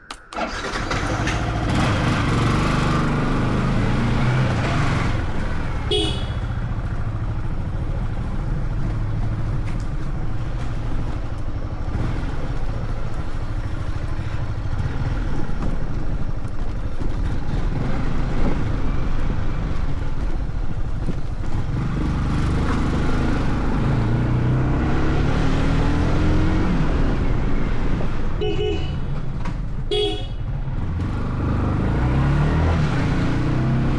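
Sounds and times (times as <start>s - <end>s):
wind and road noise: 0.0s - 33.9s
motorcycle engine accelerating: 0.4s - 33.9s.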